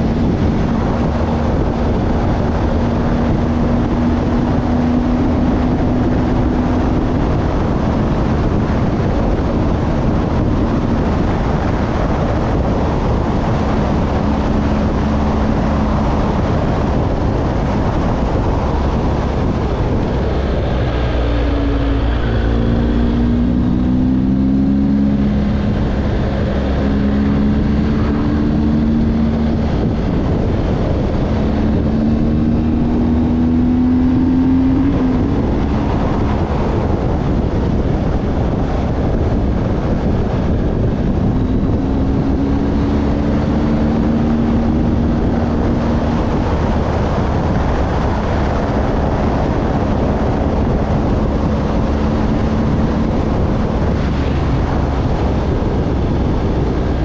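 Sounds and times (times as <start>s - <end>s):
vehicle engine accelerating: 0.0s - 57.0s
wind rushing over microphone: 0.0s - 57.0s.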